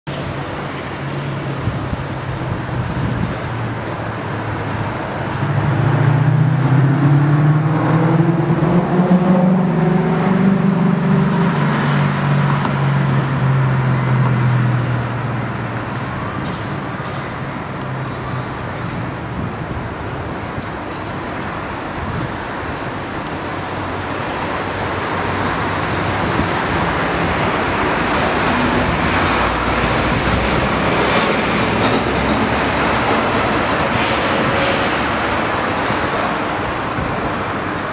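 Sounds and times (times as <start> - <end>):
city street traffic: 0.0 - 37.9.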